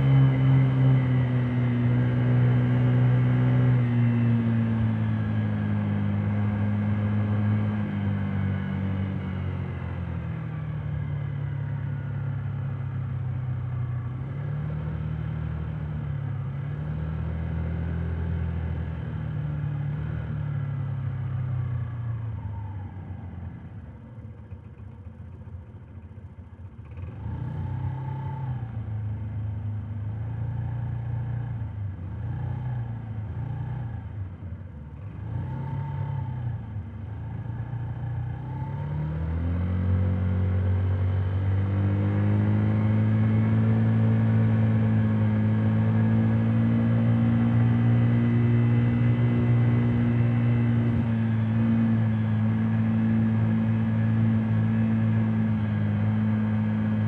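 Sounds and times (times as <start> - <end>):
scooter engine droning: 0.0 - 57.0.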